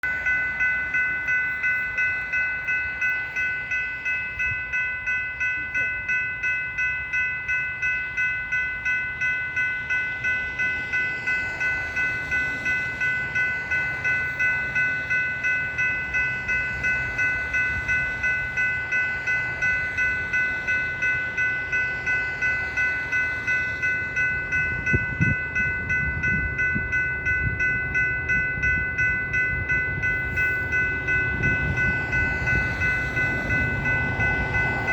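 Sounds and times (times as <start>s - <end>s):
crossing bell ringing: 0.0s - 34.9s
low train rumble: 0.0s - 34.9s.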